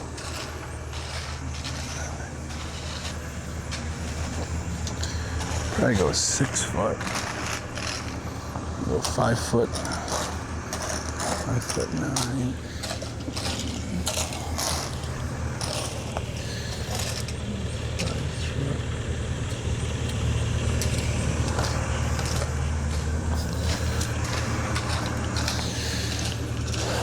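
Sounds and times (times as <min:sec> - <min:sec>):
engine humming: 0:00.0 - 0:27.0.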